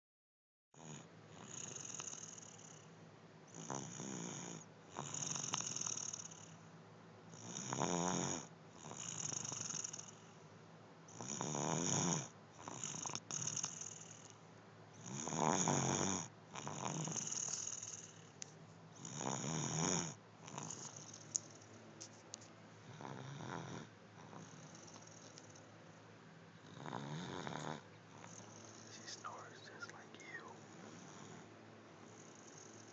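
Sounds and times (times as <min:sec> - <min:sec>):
rhythmic snoring: 0:00.8 - 0:06.7, 0:07.3 - 0:10.5, 0:11.1 - 0:14.4, 0:15.0 - 0:18.4, 0:19.0 - 0:21.4, 0:22.8 - 0:25.6, 0:26.6 - 0:32.9.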